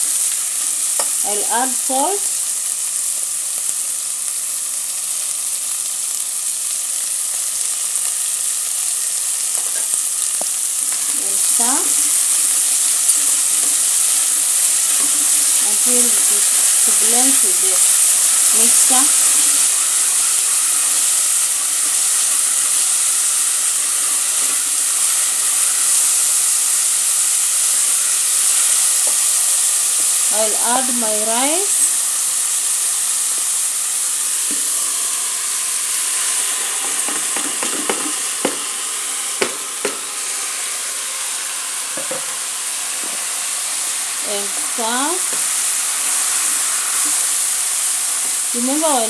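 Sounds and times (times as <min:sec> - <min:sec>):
vegetables sizzling in hot oil: 0:00.0 - 0:49.0.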